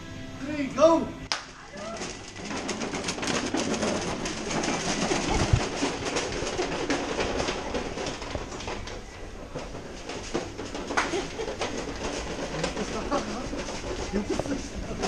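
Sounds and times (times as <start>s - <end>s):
shopping trolley rattling on tiles: 1.6s - 15.0s.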